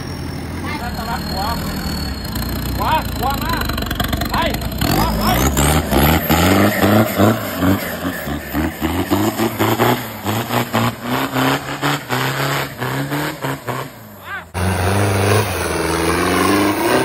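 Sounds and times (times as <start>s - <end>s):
diesel engine revving hard: 0.0s - 17.0s.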